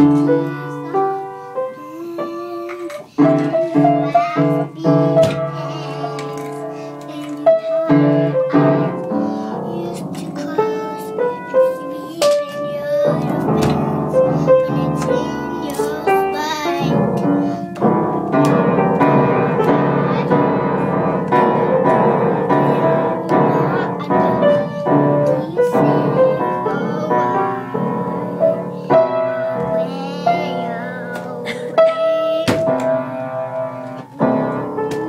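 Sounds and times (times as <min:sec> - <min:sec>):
piano playing: 0:00.0 - 0:35.0.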